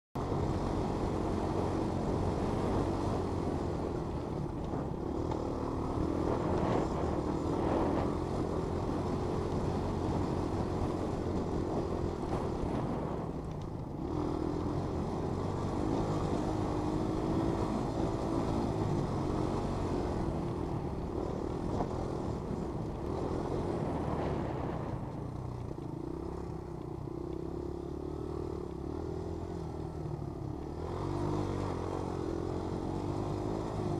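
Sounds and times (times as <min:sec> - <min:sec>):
quad bike engine revving: 0:00.2 - 0:13.2, 0:14.0 - 0:24.8, 0:27.1 - 0:33.9.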